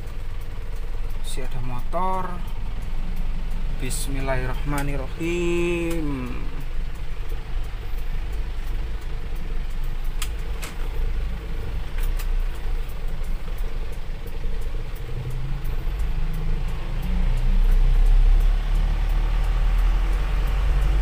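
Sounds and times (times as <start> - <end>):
diesel engine running: 0.0 - 21.0
sharp clicks: 0.0 - 21.0.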